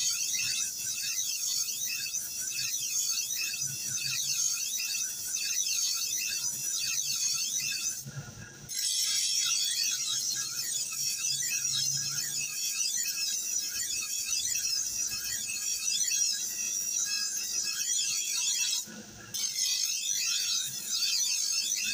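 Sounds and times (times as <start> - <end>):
knife grinding screech: 0.0 - 21.9.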